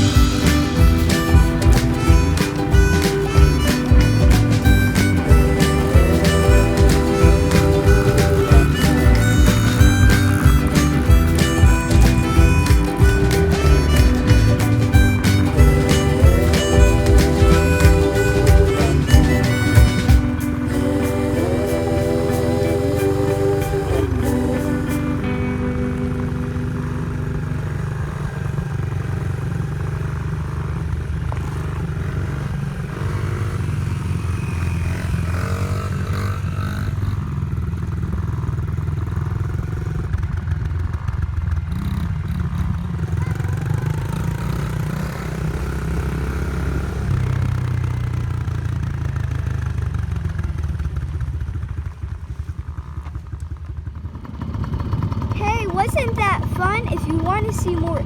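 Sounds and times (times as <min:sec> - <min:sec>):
dirt bike engine revving: 0:00.0 - 0:40.1, 0:41.0 - 0:48.6.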